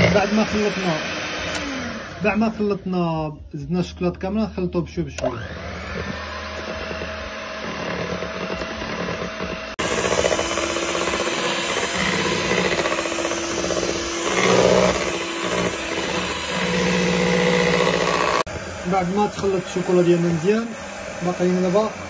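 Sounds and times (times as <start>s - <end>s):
electric mixer running: 0.0s - 2.7s, 5.2s - 22.0s.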